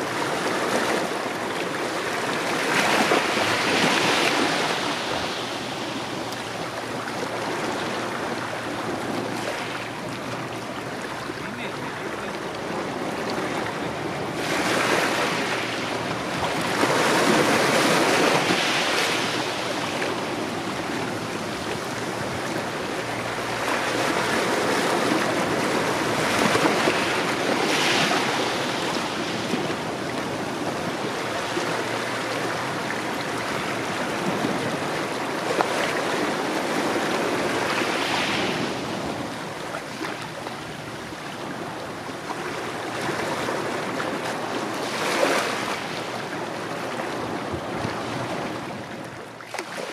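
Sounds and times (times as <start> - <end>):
small waves breaking on shore: 0.0 - 49.9.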